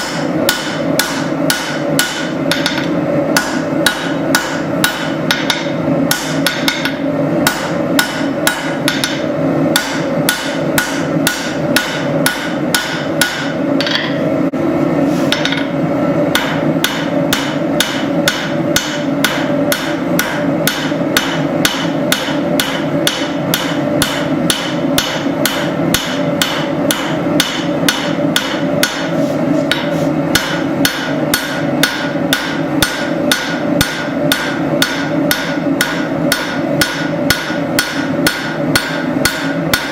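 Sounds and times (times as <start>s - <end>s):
hammer striking steel on anvil: 0.0s - 14.3s, 15.3s - 39.9s.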